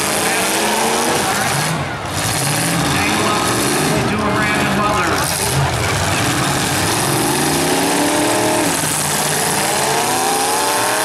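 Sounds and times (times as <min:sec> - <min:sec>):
car engines revving hard: 0:00.0 - 0:11.0
other cars running: 0:00.0 - 0:11.0.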